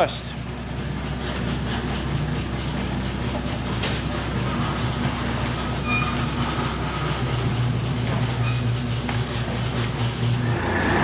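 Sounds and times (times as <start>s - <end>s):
truck engine drone: 0.0s - 11.0s.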